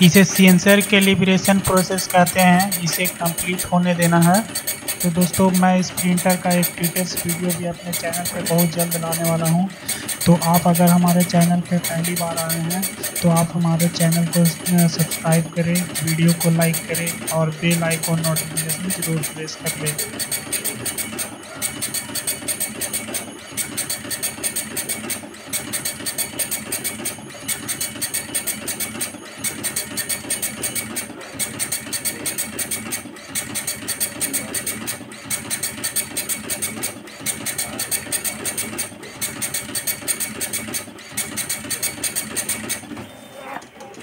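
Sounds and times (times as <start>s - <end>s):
dot-matrix printer printing: 0.0s - 44.0s.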